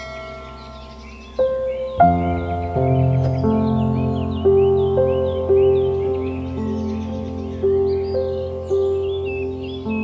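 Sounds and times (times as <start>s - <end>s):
birds chirping: 0.0s - 10.0s
soft music of held notes: 0.0s - 10.0s.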